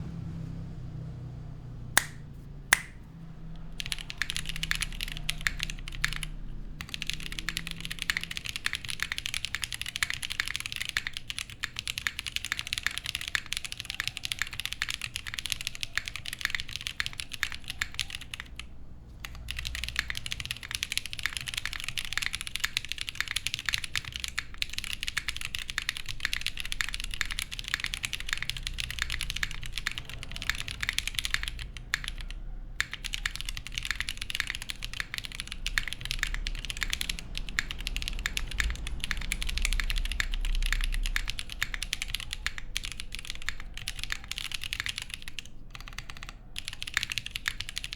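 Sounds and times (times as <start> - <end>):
sharp clicks: 2.0 - 47.9
fast mechanical keyboard typing: 2.7 - 47.9.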